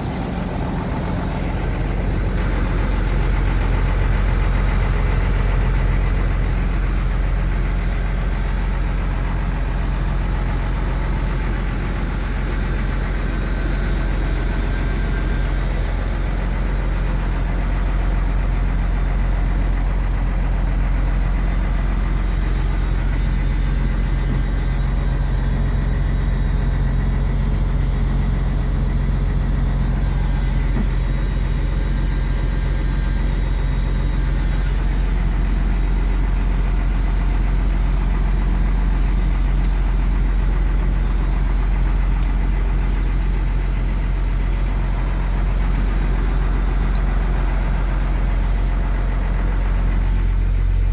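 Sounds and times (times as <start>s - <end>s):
diesel engine idling: 0.0s - 50.9s.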